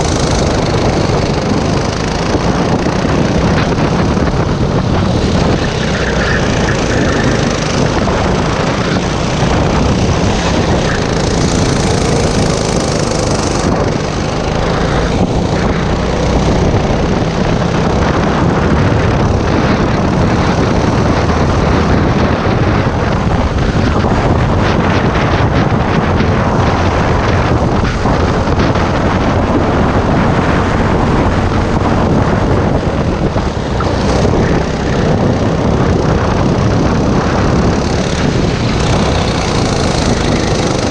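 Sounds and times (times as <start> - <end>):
go-kart engine running hard: 0.0 - 40.9
wind on microphone: 0.0 - 40.9.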